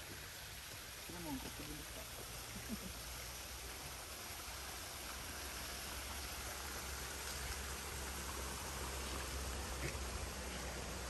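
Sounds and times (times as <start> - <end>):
water rushing along stone channel: 0.0 - 11.0.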